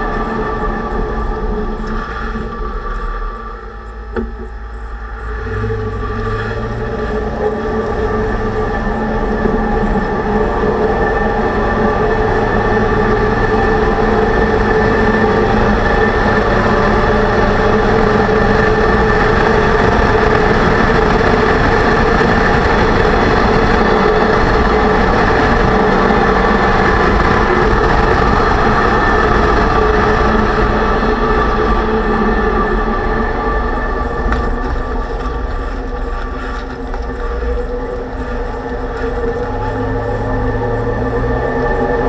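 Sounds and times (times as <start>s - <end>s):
drivetrain whine: 0.0s - 42.0s
low road rumble: 0.0s - 42.0s.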